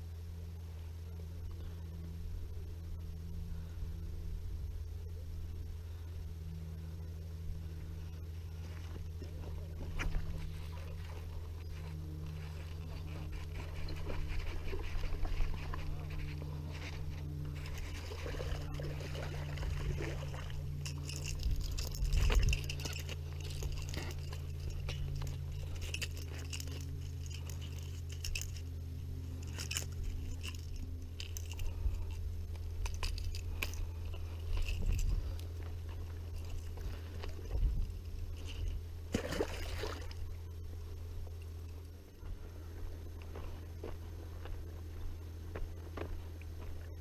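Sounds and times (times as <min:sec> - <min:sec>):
steady low hum: 0:00.0 - 0:47.0
gravel crunching: 0:05.6 - 0:47.0.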